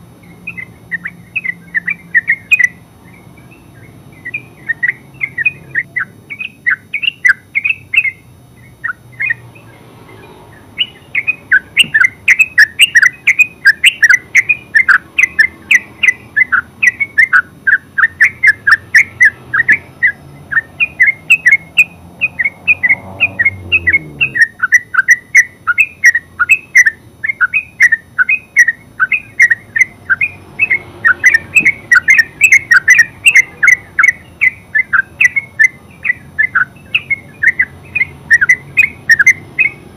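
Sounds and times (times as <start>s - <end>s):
bird singing bubbling notes: 0.2s - 9.7s, 10.5s - 39.8s.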